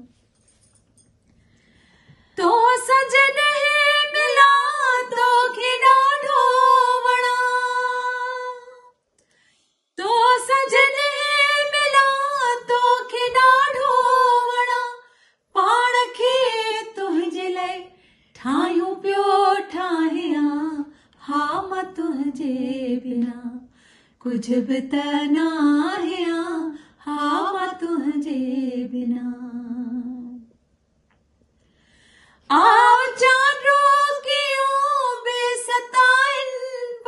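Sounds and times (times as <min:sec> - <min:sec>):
woman singing unaccompanied: 0:02.4 - 0:08.9, 0:10.0 - 0:15.0, 0:15.6 - 0:23.6, 0:24.2 - 0:30.4, 0:32.5 - 0:37.0.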